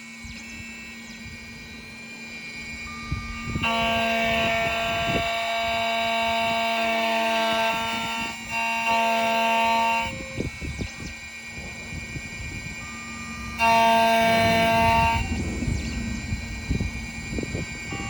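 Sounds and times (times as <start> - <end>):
key-cutting machine whine: 0.0 - 18.0
low hum: 0.0 - 18.0.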